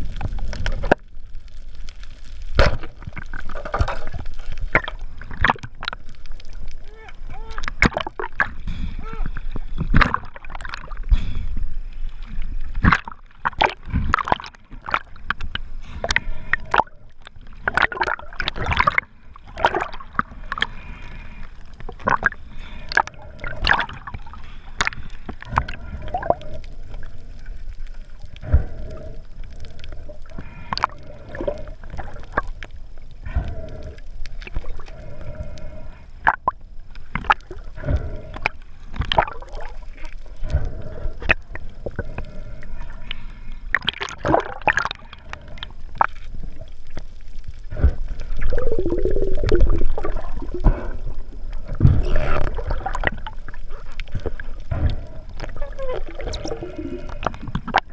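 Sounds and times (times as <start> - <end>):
sharp underwater clicks: 0.0 - 57.9
underwater water sloshing: 0.0 - 57.9.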